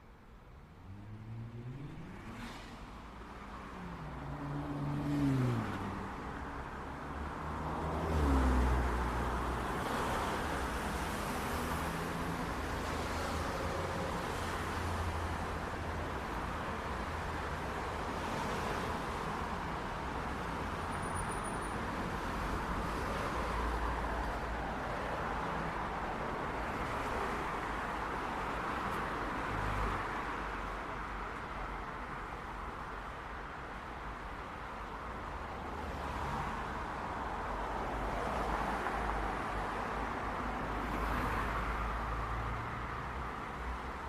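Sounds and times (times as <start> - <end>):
passing car traffic: 0.0 - 44.0.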